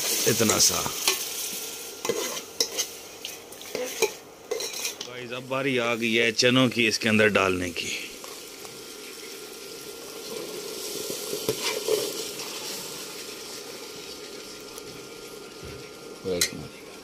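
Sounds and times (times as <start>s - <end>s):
masala sizzling in a pot: 0.0s - 17.0s.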